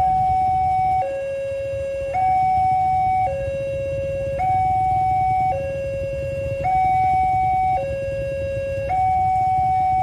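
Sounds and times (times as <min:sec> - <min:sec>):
two-tone crossing alarm: 0:00.0 - 0:10.0.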